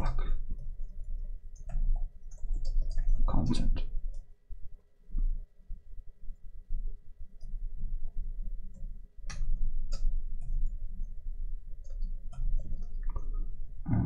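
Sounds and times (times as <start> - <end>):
low hum: 2.5 - 14.0.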